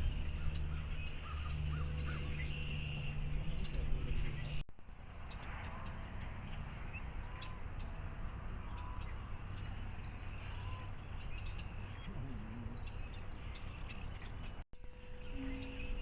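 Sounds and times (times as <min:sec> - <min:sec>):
small birds chirping: 0:00.0 - 0:04.6, 0:05.2 - 0:16.0
outdoor background noise: 0:00.0 - 0:16.0.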